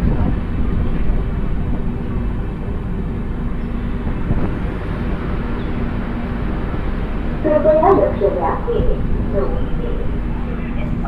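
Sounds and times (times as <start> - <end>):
rumble of train wheels on rail: 0.0 - 11.0.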